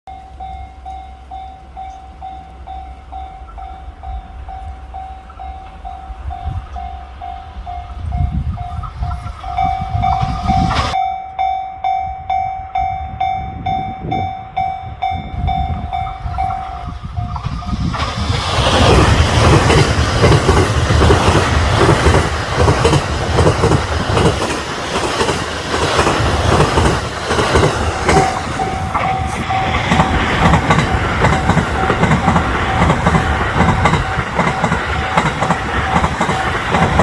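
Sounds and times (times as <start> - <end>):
level-crossing warning bell: 0.1 - 37.0
train rumble and rush: 0.1 - 37.0
wheels beating over rail joints: 2.5 - 11.0, 14.1 - 37.0.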